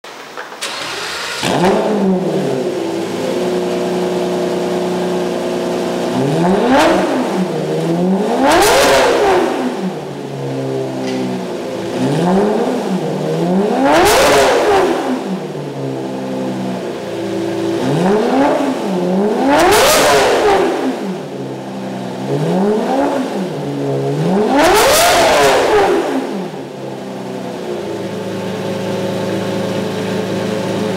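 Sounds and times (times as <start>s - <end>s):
sports car engine revving: 0.6s - 30.9s.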